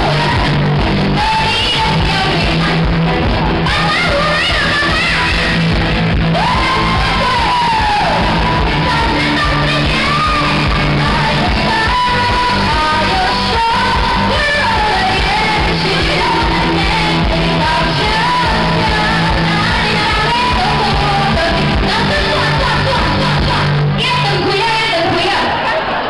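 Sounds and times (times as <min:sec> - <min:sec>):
person singing: 0:00.0 - 0:25.1
live band music: 0:00.0 - 0:26.0.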